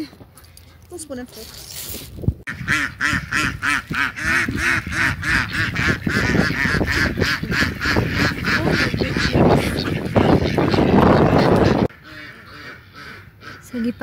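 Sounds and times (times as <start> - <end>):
ducks quacking: 2.5 - 14.0.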